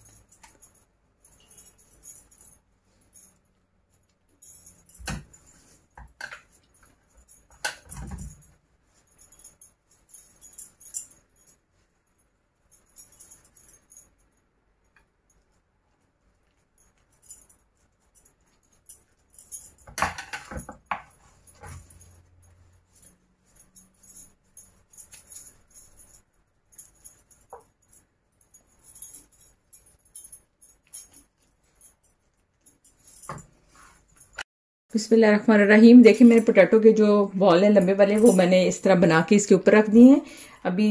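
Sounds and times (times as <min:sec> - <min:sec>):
metal bangles jingling: 0:00.0 - 0:34.5, 0:35.9 - 0:40.9.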